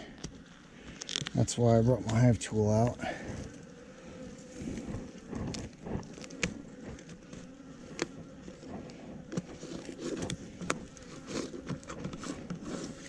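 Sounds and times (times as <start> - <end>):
gloved hands rustling and clicking: 0.0 - 2.3, 4.3 - 13.0
honeybees buzzing: 0.0 - 13.0.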